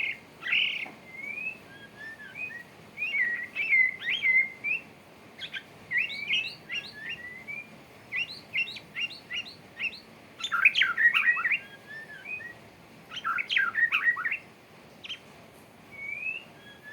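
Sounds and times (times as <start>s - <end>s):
songbird whistling and chirping: 0.0s - 15.3s, 15.9s - 16.9s.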